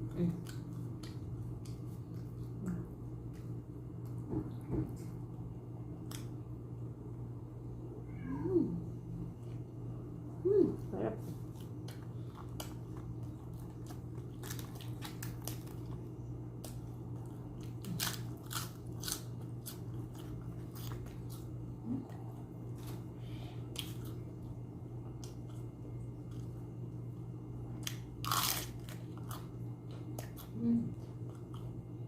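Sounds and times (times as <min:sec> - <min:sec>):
chewing and crunching food: 0:00.0 - 0:06.5, 0:11.2 - 0:32.0
low hum: 0:00.0 - 0:32.0.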